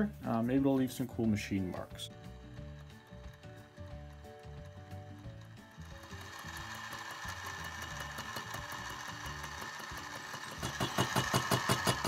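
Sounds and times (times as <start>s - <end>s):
milling machine cutting steel: 2.1s - 12.0s
regular cutter ticking: 2.1s - 12.0s.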